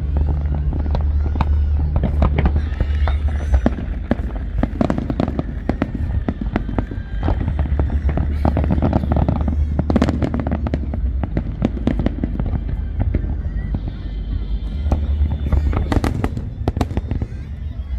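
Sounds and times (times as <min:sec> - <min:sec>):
fireworks bangs and crackles: 0:00.0 - 0:17.9
low rumble: 0:00.0 - 0:17.9.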